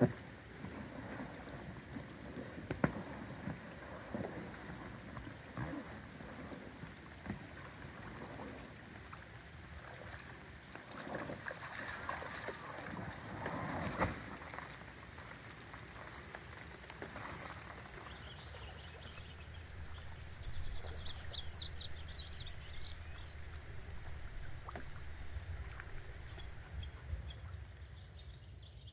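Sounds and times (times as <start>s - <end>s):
water splashing: 0.0s - 27.9s
rain falling on a lake: 0.0s - 28.9s.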